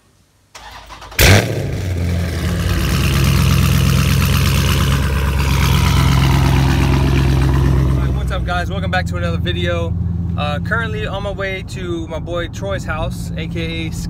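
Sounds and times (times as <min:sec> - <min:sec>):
car engine starting and idling: 0:00.5 - 0:14.0.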